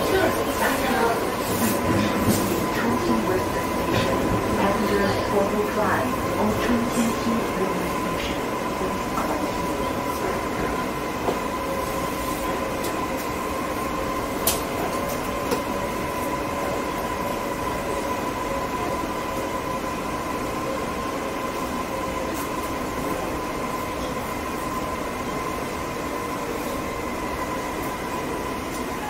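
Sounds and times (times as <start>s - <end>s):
train rumble with high whine: 0.0s - 29.0s.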